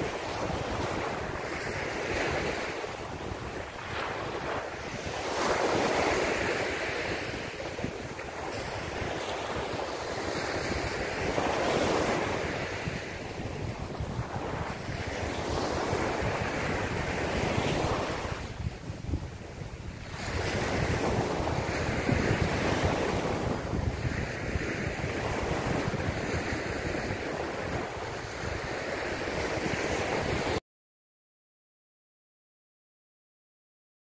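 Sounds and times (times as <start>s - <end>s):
surf waves breaking on beach: 0.0s - 30.6s
wind buffeting microphone: 0.0s - 30.6s.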